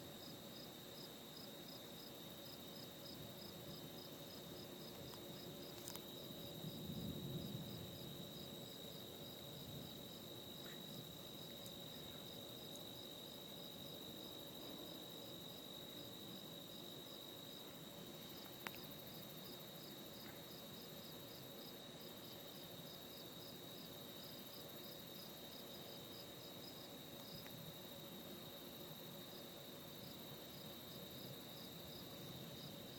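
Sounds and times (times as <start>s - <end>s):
insects buzzing: 0.0s - 32.9s.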